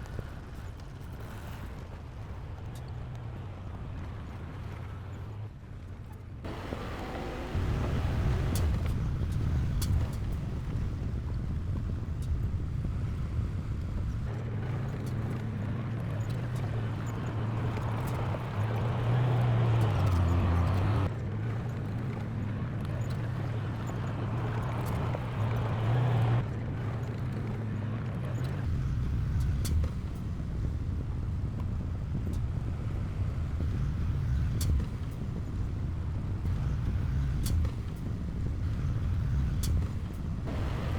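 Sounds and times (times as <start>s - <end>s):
diesel engine drone under load: 6.5s - 40.9s.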